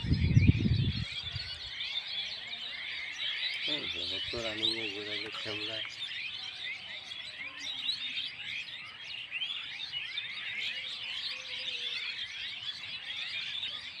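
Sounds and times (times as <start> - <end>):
flock of birds chirping: 0.0 - 14.0.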